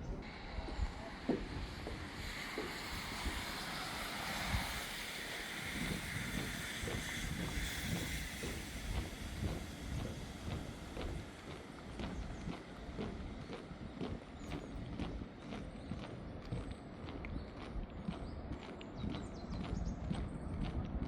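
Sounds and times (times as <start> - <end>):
wind on microphone: 0.0 - 21.0
footsteps walking: 0.6 - 3.8, 4.7 - 21.0.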